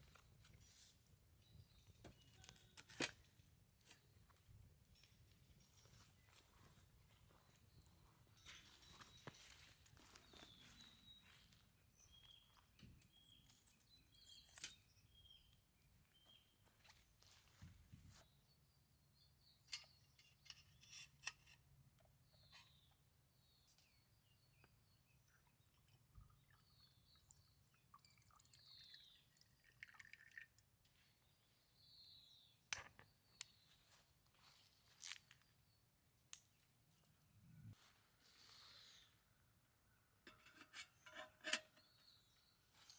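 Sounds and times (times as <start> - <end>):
faint birdsong: 0.0 - 42.9.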